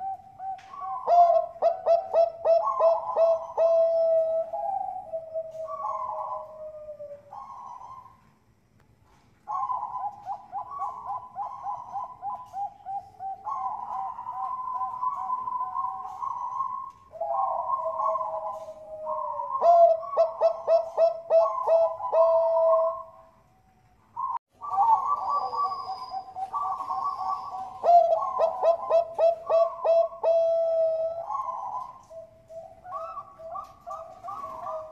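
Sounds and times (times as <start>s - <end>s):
dove cooing: 0.0s - 8.3s, 9.4s - 34.9s.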